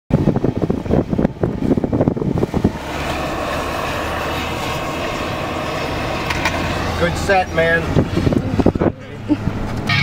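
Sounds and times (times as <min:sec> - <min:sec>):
wind buffeting microphone: 0:00.1 - 0:09.8
low rumbles and bumps: 0:00.1 - 0:09.9
road noise inside car cabin: 0:00.1 - 0:10.0.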